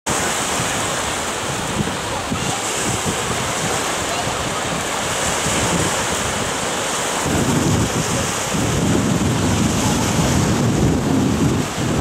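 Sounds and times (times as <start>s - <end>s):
waves washing up a beach: 0.1s - 12.0s
wind rumbling on microphone: 0.1s - 12.0s.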